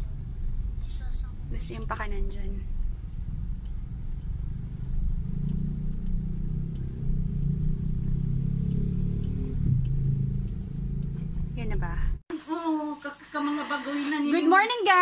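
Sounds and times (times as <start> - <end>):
car engine and road rumble: 0.0 - 12.3.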